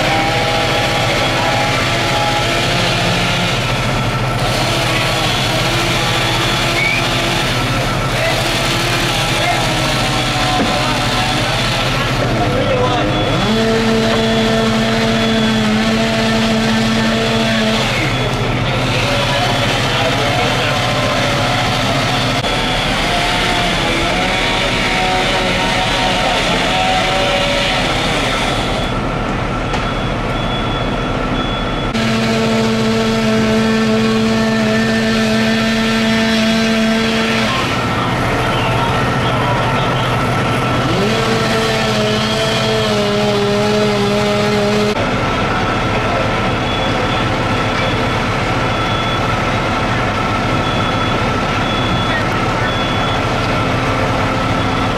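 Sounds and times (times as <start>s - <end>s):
fire engines droning: 0.0s - 54.9s
small engine whine: 0.0s - 54.9s.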